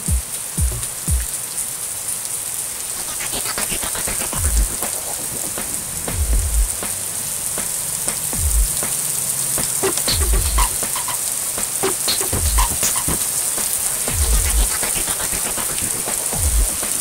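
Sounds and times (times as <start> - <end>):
electronic music beat: 0.0 - 1.3, 3.0 - 9.0, 9.6 - 17.0
heavy rain on pavement: 0.0 - 17.0.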